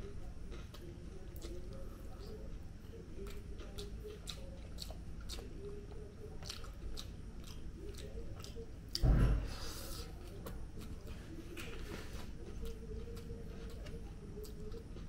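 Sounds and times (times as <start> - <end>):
person chewing with mouth clicks: 0.5 - 15.0.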